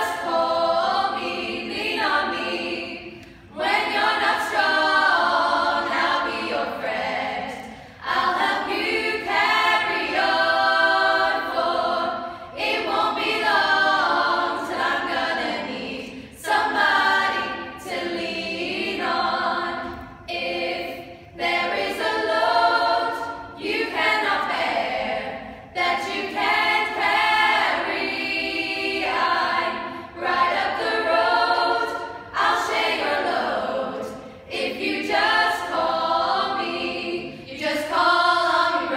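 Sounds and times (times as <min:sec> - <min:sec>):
women singing a cappella harmony: 0:00.0 - 0:38.9.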